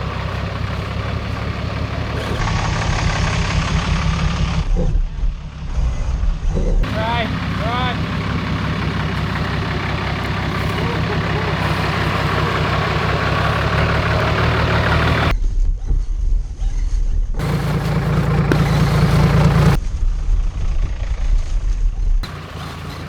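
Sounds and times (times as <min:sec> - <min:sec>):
engine running at low revs: 0:00.0 - 0:15.3, 0:17.4 - 0:23.0.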